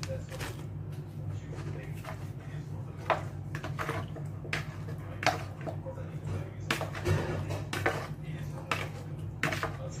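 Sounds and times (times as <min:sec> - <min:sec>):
low steady hum: 0:00.0 - 0:10.0
wet squishes of meat mixing: 0:00.0 - 0:10.0.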